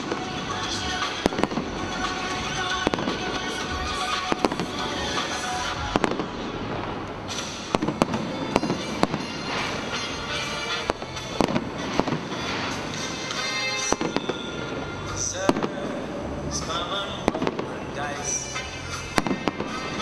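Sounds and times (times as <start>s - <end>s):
firework shells bursting: 0.0s - 20.0s
music playing: 0.0s - 20.0s.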